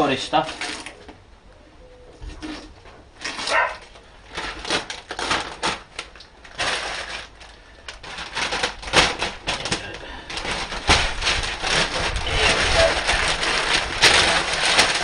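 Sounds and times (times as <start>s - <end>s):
paper rustling and crinkling: 0.0s - 1.2s, 2.2s - 15.0s
tape peeling: 2.2s - 15.0s.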